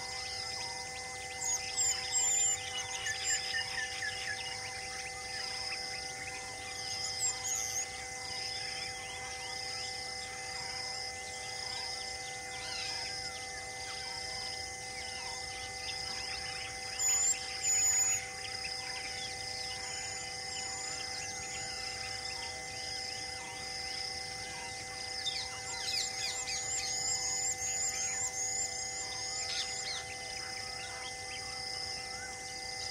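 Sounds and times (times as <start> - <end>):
steady hum of level tones: 0.0 - 32.9.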